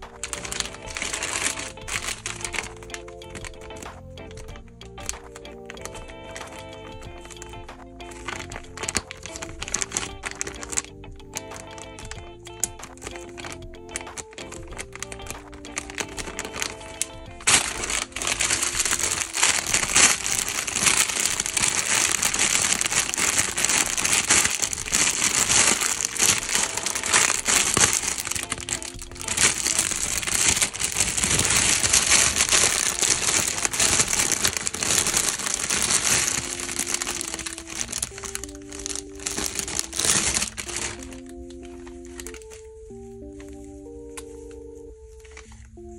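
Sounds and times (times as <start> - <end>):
plastic bags crinkling: 0.0 - 45.8
soft background music: 0.0 - 45.9.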